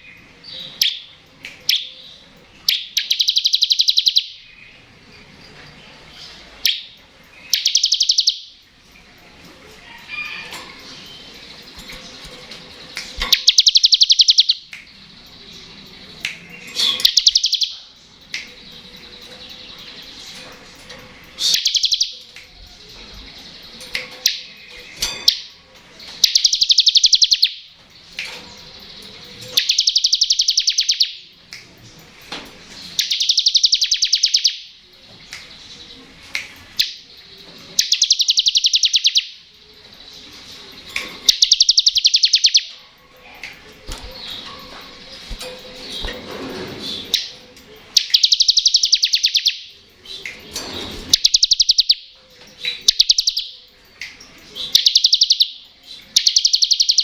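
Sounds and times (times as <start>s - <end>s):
bird sharp chips: 6.2s - 8.4s, 9.8s - 31.9s, 32.5s - 57.0s.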